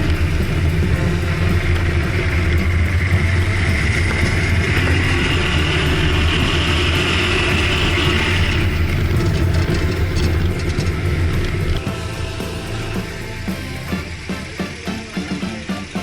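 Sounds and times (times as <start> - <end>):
high engine whine: 0.0 - 15.2
car engine humming: 0.0 - 16.0.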